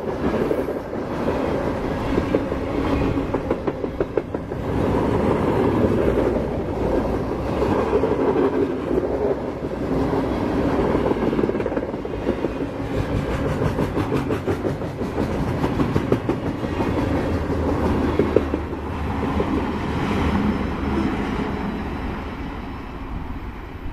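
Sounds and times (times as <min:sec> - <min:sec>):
freight train wheels clacking on rails: 0:00.0 - 0:21.8.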